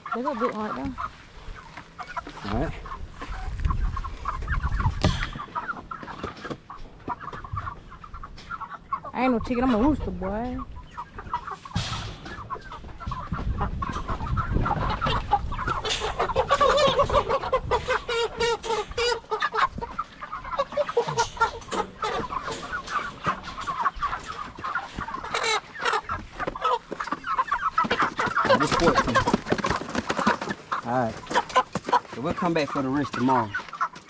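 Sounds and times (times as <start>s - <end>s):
chickens clucking and squawking: 0.0s - 34.0s.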